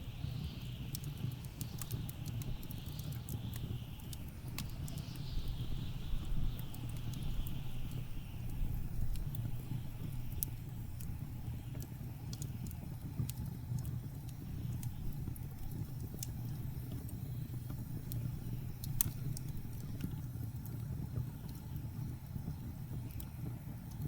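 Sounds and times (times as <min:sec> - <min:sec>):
low rumble of blizzard wind: 0:00.0 - 0:24.0
wood fire crackling and popping: 0:00.0 - 0:24.0.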